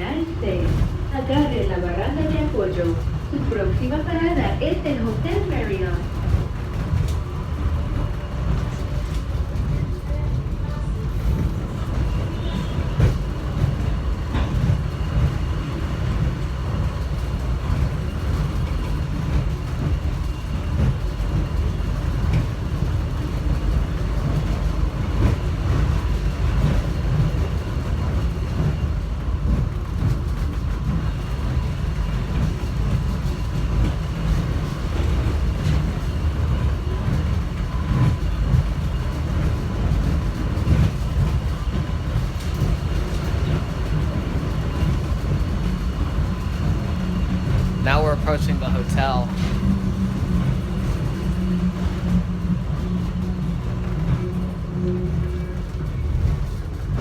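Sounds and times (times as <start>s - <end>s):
train car low rumble: 0.0s - 57.0s.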